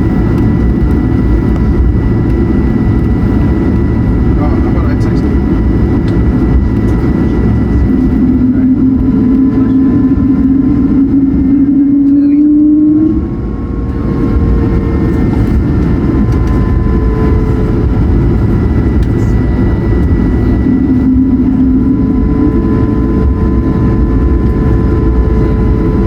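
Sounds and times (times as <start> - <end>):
jet engines rumbling and whining: 0.0 - 26.0.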